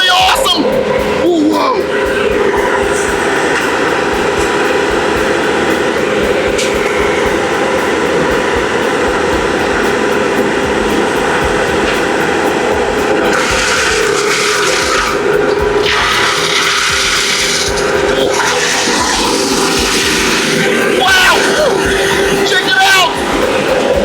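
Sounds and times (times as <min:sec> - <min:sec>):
machinery engine running: 0:00.0 - 0:24.0.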